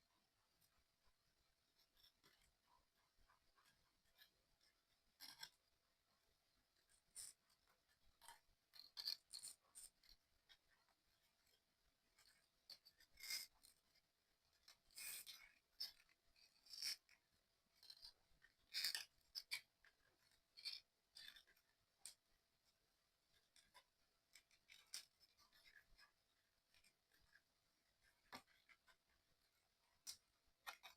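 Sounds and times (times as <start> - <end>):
scrapes of model parts: 3.3 - 5.7, 6.8 - 30.9.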